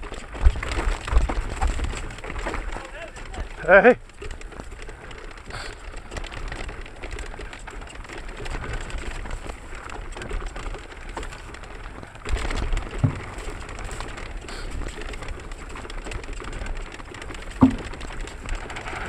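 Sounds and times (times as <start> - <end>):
bike clattering over ground: 0.0 - 19.0
wind rumbling on microphone: 0.0 - 19.0.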